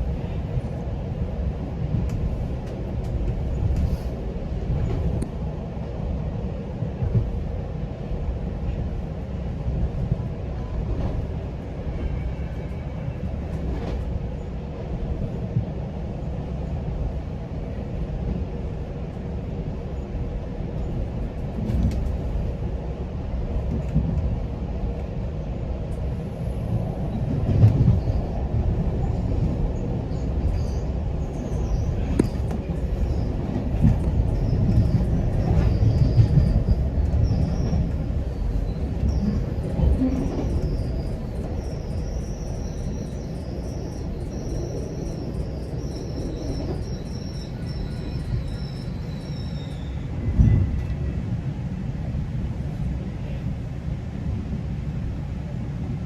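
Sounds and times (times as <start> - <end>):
train rumbling along track: 0.0 - 56.0.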